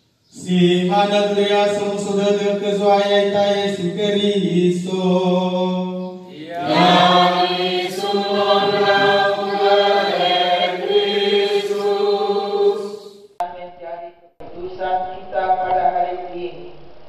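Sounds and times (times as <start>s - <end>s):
liturgical chant: 0.3s - 16.8s.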